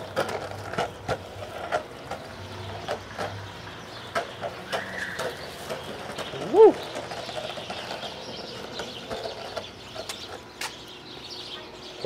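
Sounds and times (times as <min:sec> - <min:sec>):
skateboard wheels clacking over joints: 0:00.0 - 0:11.6
skateboard rolling on concrete: 0:00.0 - 0:12.0.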